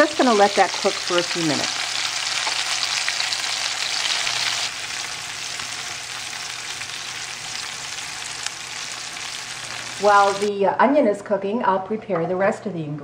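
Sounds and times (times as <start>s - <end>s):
onions sizzling in a frying pan: 0.0s - 10.5s.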